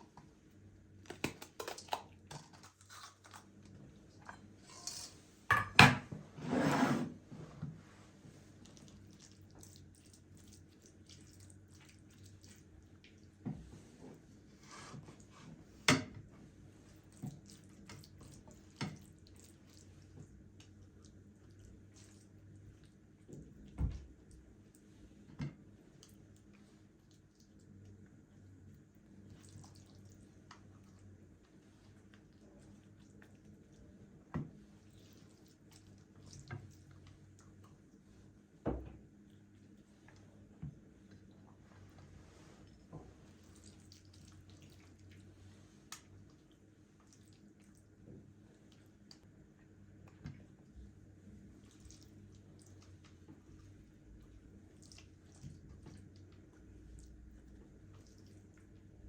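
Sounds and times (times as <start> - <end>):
faint low hum: 7.6 - 59.0.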